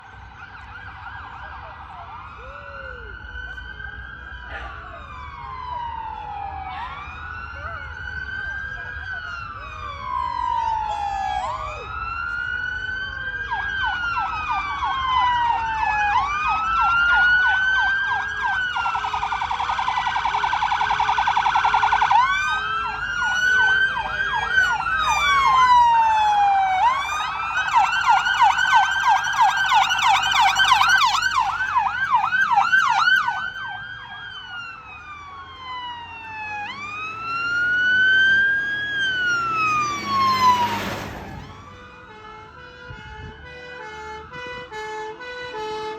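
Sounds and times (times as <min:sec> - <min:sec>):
fire engine sirens wailing: 0:00.0 - 0:45.9.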